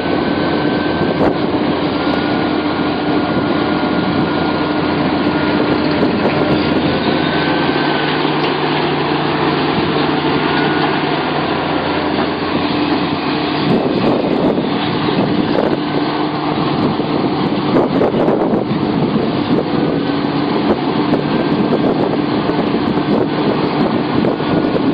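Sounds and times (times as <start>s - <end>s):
excavator engine hum: 0.0s - 24.9s
high wavering whine: 0.0s - 24.9s.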